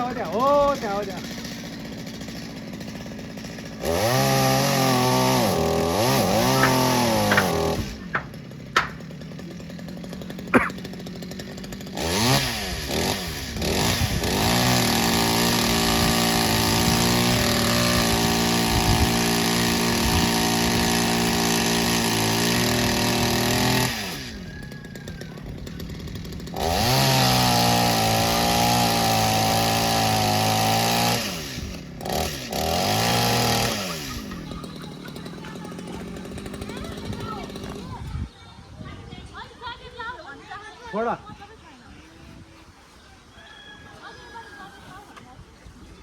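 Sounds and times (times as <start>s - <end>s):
chainsaw idling and revving: 0.0s - 38.2s.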